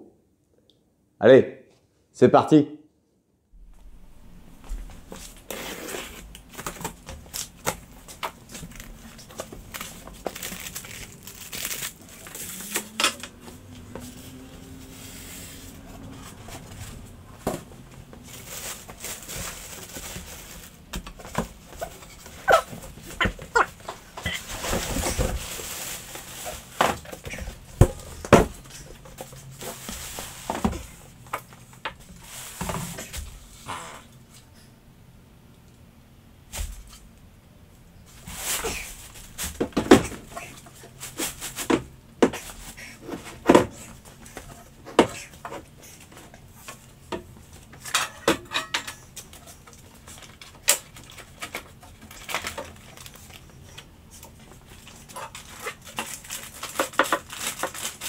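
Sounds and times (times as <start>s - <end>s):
cardboard and plastic wrap rustling: 3.8s - 33.6s, 38.1s - 58.0s.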